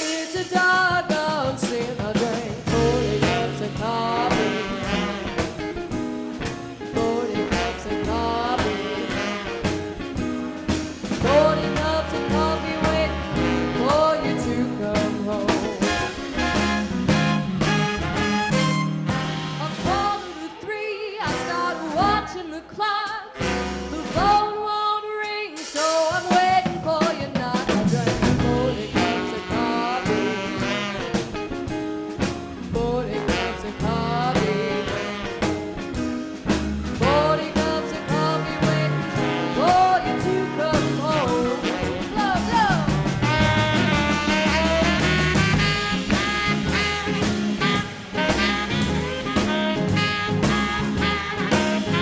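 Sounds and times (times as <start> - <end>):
swing band playing: 0.0 - 52.0.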